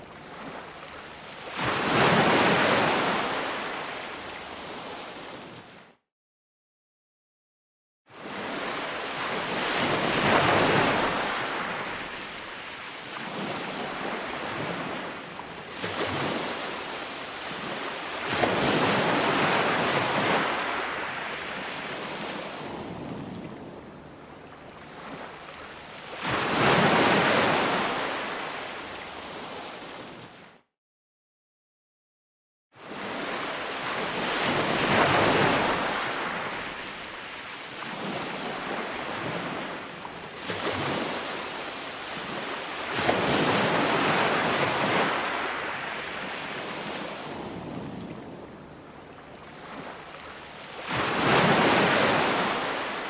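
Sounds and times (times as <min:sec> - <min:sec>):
ocean waves breaking: 0:00.0 - 0:05.6, 0:08.2 - 0:30.4, 0:32.8 - 0:53.0.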